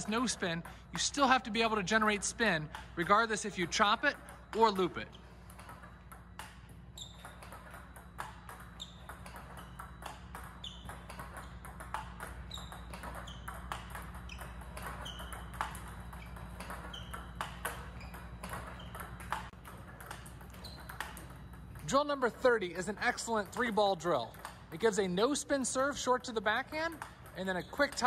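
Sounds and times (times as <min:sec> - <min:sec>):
table tennis ball hits: 0:00.0 - 0:28.0.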